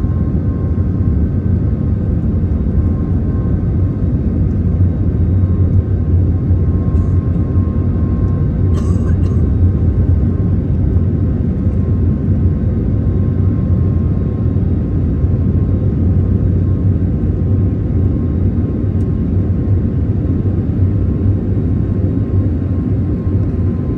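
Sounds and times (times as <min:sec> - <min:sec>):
faint engine whine: 0:00.0 - 0:23.9
jet engine rumble in cabin: 0:00.0 - 0:23.9.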